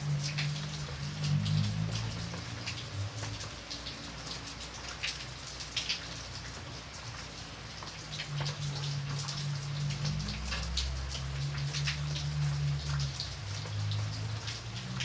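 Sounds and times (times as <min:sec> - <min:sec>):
raindrops pattering on a surface: 0:00.0 - 0:15.0.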